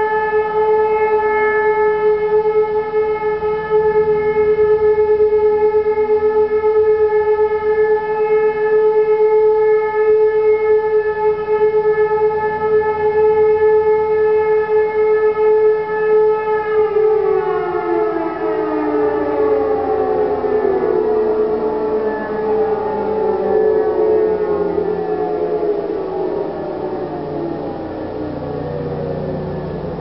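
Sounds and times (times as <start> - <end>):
civil defence sirens steady tone: 0.0 - 30.0
siren winding down: 0.0 - 30.0.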